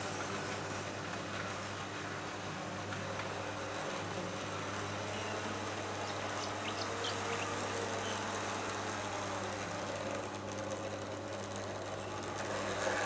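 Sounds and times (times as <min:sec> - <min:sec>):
model train motor humming: 0:00.0 - 0:13.0
wheels over rail joints: 0:00.0 - 0:13.0.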